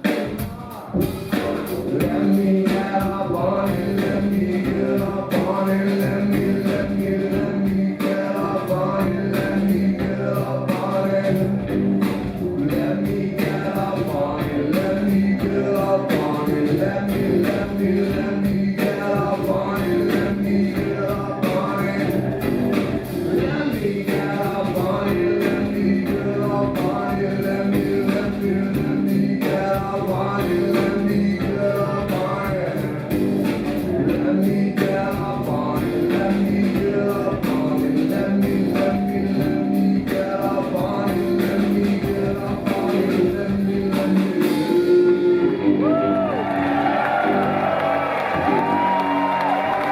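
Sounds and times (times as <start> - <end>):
drums: 0.0 - 49.9
live rock band playing: 0.0 - 49.9
person singing: 0.0 - 49.9.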